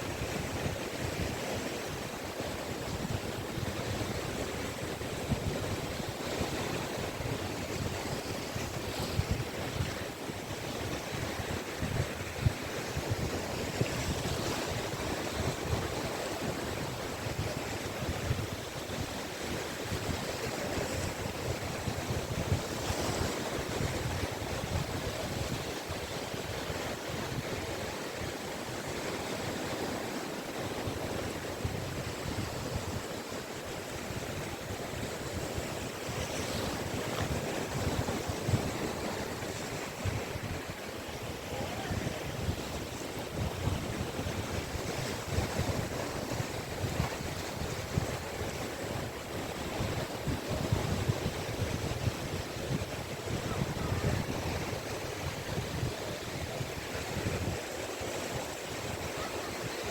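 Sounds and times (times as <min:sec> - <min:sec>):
surf washing onto beach: 0:00.0 - 0:59.9
wind rumble on microphone: 0:00.0 - 0:59.9.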